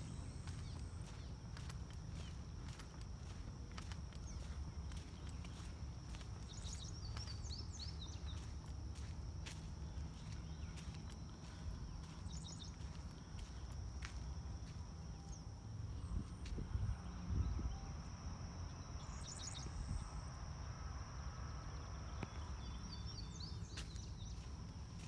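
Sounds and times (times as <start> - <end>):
continuous high-pitched tone: 0.0 - 25.0.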